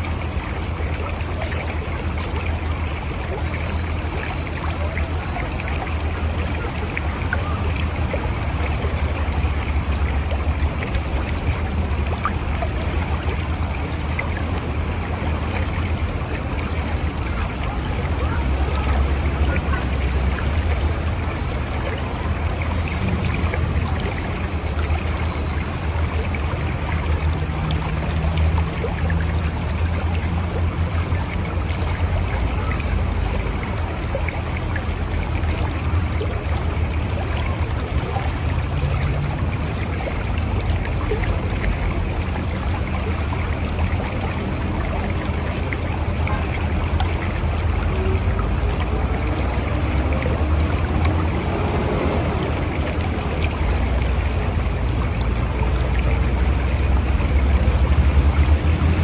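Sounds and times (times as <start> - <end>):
river rushing and gurgling: 0.0 - 59.0.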